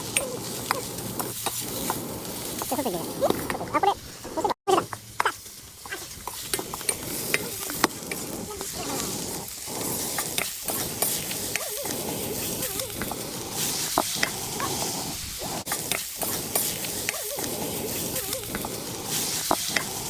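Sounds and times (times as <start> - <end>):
food sizzling in a wok: 0.0 - 20.0.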